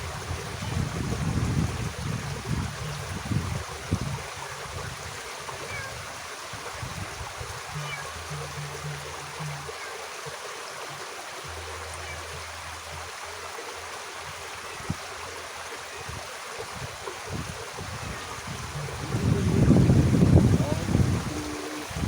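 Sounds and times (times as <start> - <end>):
water flowing in a ditch: 0.0 - 22.0.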